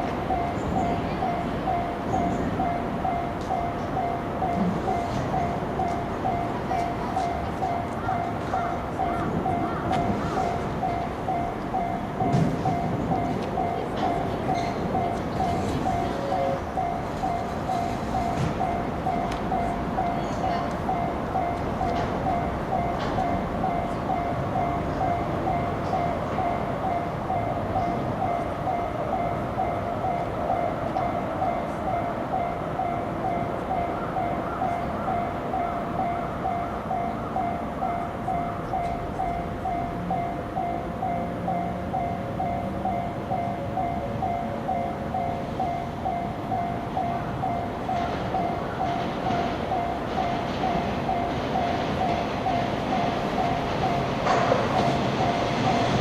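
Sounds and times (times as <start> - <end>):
approaching train: 0.0 - 56.0
level crossing warning bell: 0.0 - 56.0.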